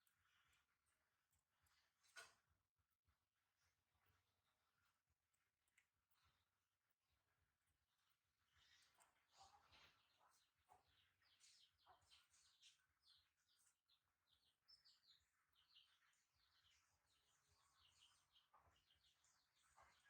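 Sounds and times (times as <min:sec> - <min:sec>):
faint small birds chirping: 0:00.0 - 0:20.0.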